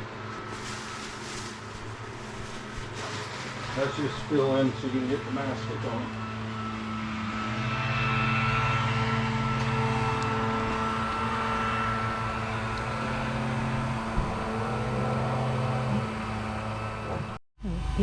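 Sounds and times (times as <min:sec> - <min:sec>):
motor humming: 0:01.5 - 0:18.0.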